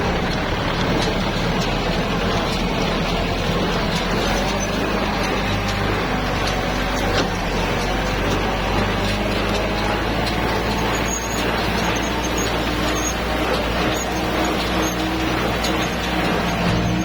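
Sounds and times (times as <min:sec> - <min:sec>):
farm machinery working: 0:00.0 - 0:17.0
tractor diesel engine running: 0:00.0 - 0:17.0.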